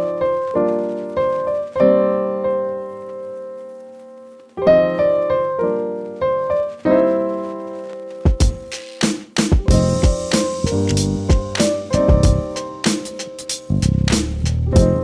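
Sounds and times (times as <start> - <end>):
piano chords ringing: 0.0 - 8.8, 9.6 - 13.9, 14.7 - 15.0.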